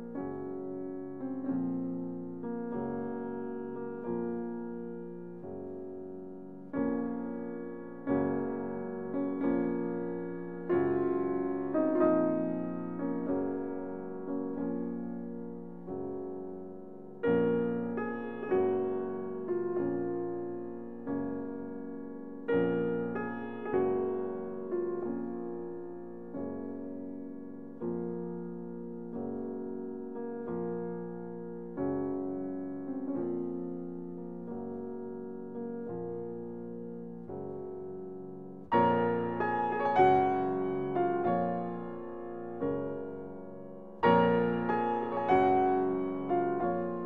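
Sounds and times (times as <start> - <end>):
slow piano chords: 0.0 - 47.0.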